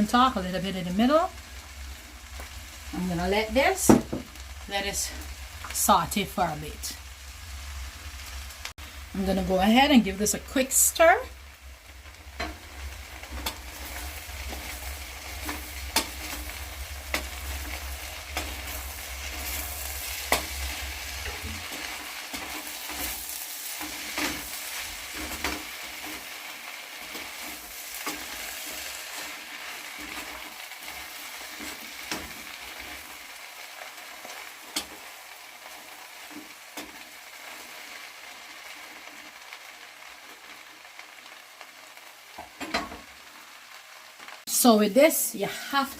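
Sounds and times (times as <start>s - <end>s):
food sizzling in oil: 0.0s - 45.9s.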